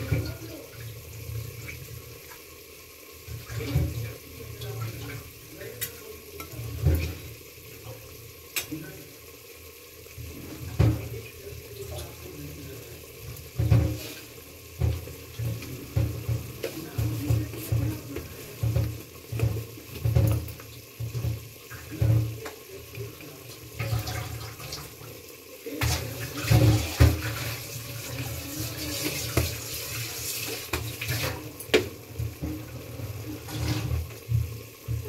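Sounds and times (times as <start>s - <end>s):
thick curry bubbling and sizzling: 0.0s - 35.0s.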